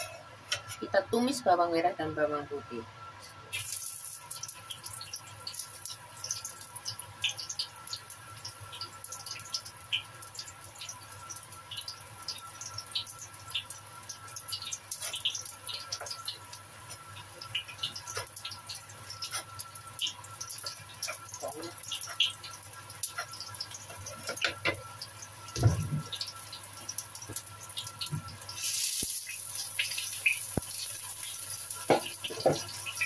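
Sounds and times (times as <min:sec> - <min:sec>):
shallots sizzling in oil: 0:03.5 - 0:33.0.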